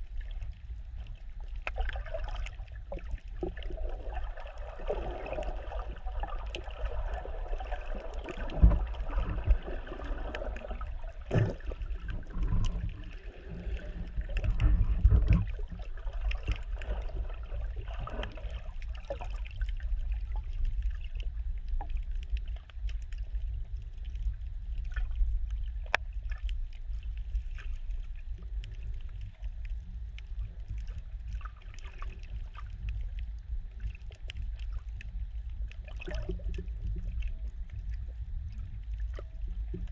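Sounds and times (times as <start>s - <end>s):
underwater rumble: 0.0s - 39.9s.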